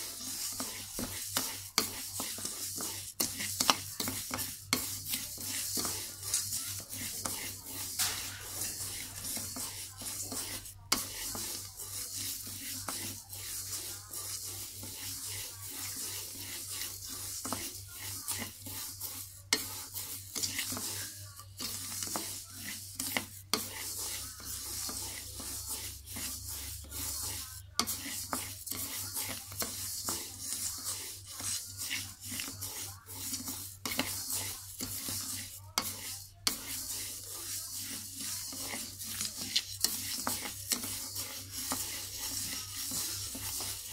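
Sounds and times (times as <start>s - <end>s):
rice grains hissing in a wok: 0.0s - 43.9s
spatula scraping a wok: 0.0s - 43.9s.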